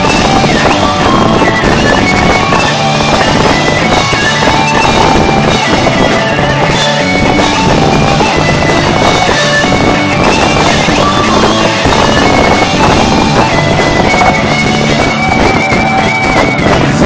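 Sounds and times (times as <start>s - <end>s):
bass guitar: 0.0s - 17.0s
distorted electric guitar: 0.0s - 17.0s
drums: 0.0s - 17.0s.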